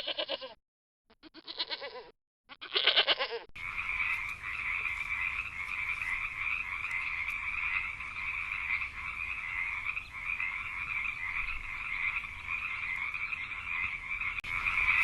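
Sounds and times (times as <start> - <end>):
frogs calling in chorus: 2.7 - 15.0.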